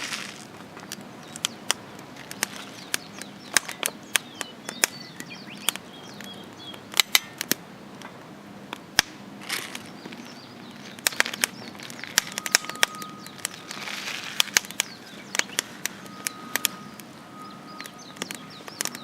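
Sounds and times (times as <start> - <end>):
campfire crackling and popping: 0.0 - 19.0
faint birds chirping: 0.0 - 19.0.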